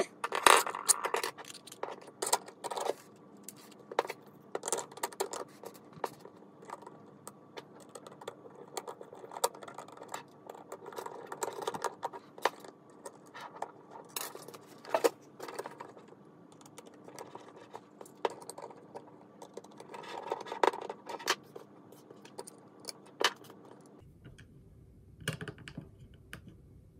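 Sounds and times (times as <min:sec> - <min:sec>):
plastic parts clicking and rattling: 0:00.0 - 0:24.0
faint steady hum: 0:00.0 - 0:26.9.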